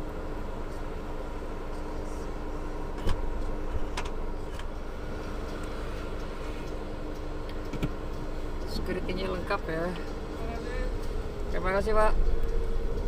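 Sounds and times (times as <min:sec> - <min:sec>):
street traffic rumbling: 0:00.0 - 0:13.0.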